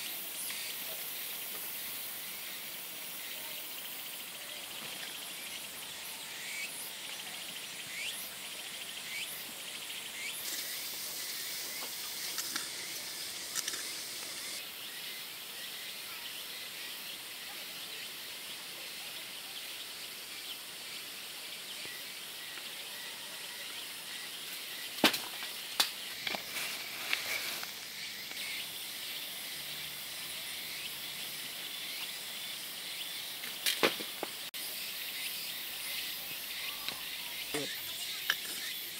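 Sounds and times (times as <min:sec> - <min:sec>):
steady high hiss: 0:00.0 - 0:38.9.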